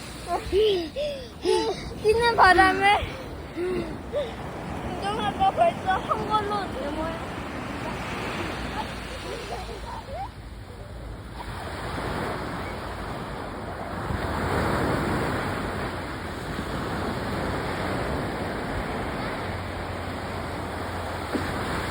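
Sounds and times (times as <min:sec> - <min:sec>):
sea waves breaking on shore: 0:00.0 - 0:21.9
wind buffeting microphone: 0:00.0 - 0:21.9.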